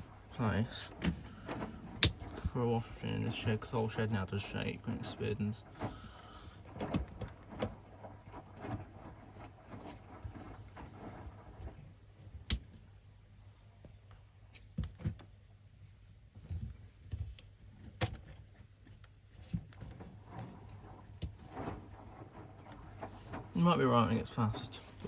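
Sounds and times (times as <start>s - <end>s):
washing machine humming: 0.0s - 25.0s.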